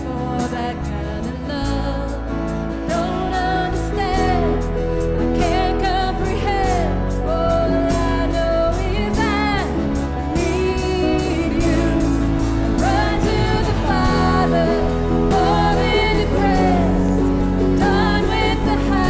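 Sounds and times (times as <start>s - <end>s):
band playing worship music: 0.0s - 19.0s
person singing: 0.0s - 19.0s
steady bass: 0.0s - 19.0s.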